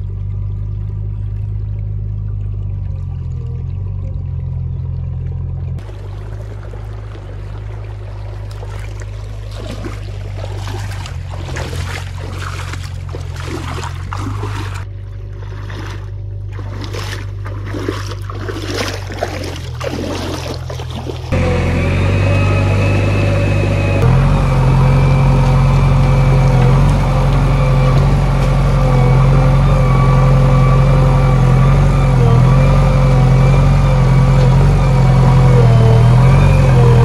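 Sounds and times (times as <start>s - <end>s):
diesel engine running: 0.0s - 37.0s
mud and water sloshing: 0.0s - 37.0s.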